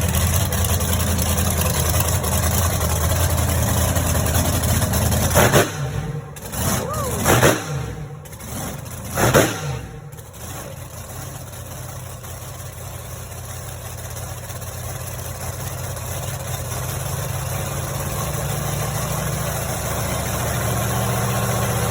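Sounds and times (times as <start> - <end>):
monster truck engine idling: 0.0 - 21.9.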